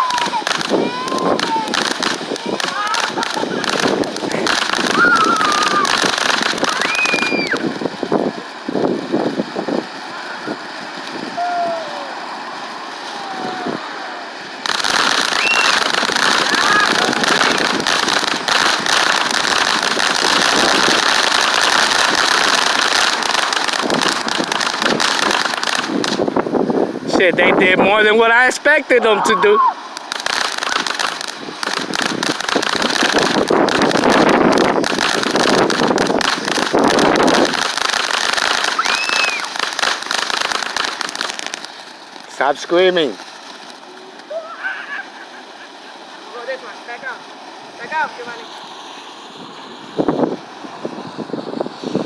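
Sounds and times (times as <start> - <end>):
sparkling fireworks hissing and crackling: 0.0 - 52.0.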